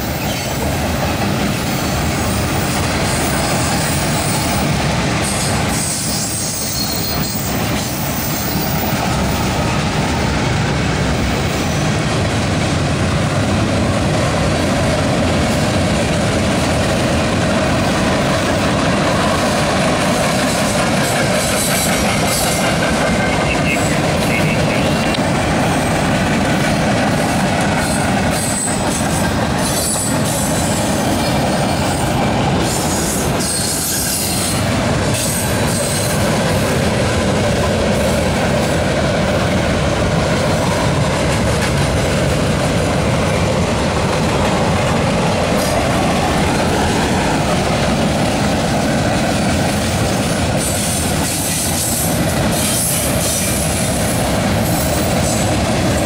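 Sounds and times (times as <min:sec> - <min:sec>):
train wheels rolling over steel bridge: 0:00.0 - 0:56.0.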